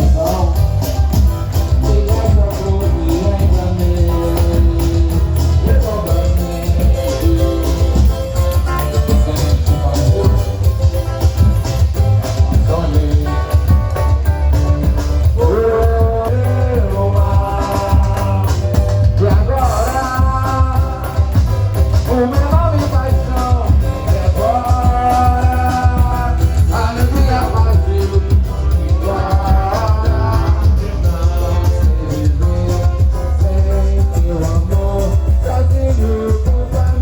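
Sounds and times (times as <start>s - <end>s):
loud music with heavy bass: 0.0s - 37.0s.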